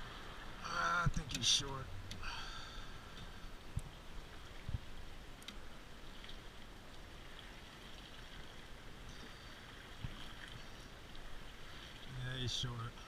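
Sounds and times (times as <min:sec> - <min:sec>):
water lapping against kayak hull: 0:00.0 - 0:13.0.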